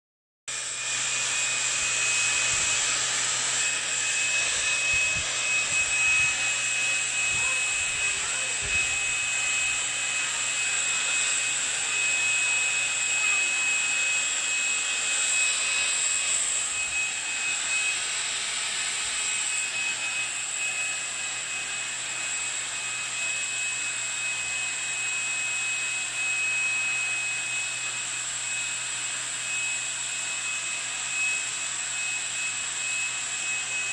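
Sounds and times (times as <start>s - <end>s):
stick vacuum whining: 0.5s - 33.9s.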